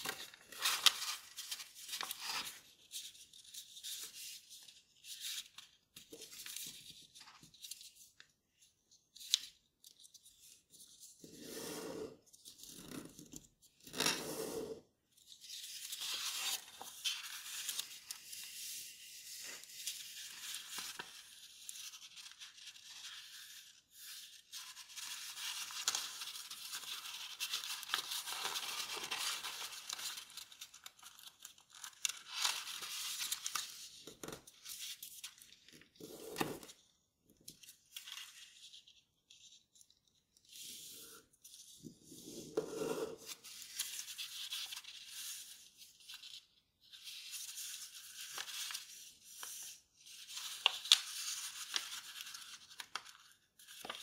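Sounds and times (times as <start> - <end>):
paper rustling and crinkling: 0.0 - 11.2, 15.2 - 36.8, 43.2 - 54.0.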